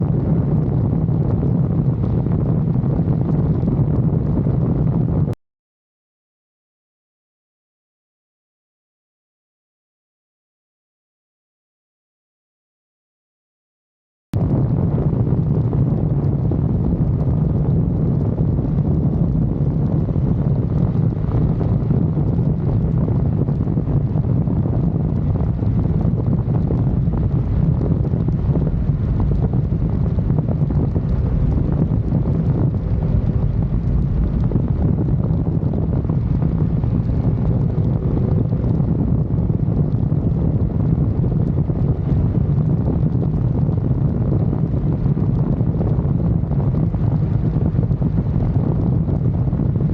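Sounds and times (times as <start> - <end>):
low rumble: 0.0 - 5.4, 14.4 - 49.9
wind buffeting microphone: 0.0 - 5.4, 14.4 - 49.9.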